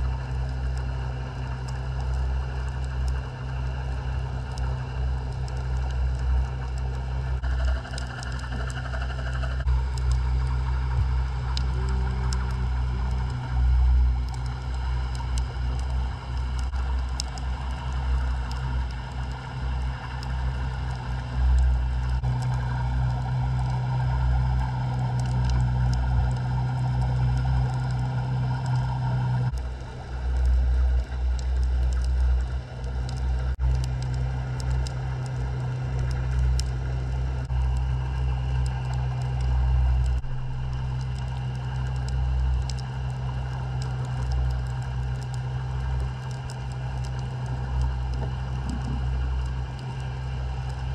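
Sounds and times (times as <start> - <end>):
steady hum: 0.0 - 50.9
underwater rumble of moving water: 0.0 - 50.9.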